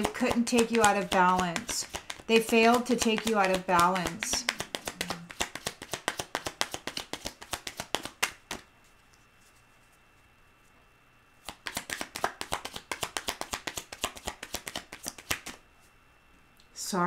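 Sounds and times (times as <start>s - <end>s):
cards being shuffled: 0.0s - 10.0s, 11.4s - 15.6s.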